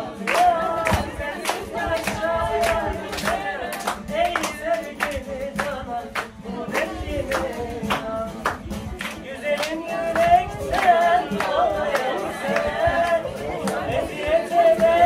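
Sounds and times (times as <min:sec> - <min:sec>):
person singing: 0:00.0 - 0:15.0
rhythmic hand clapping: 0:00.0 - 0:15.0.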